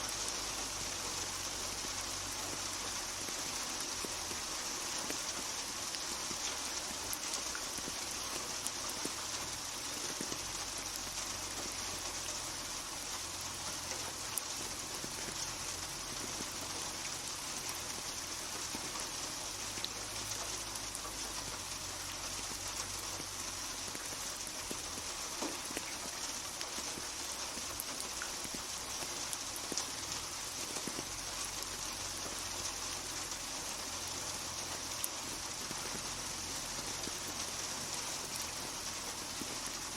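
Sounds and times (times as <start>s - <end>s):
rain on hard surface: 0.0s - 39.9s.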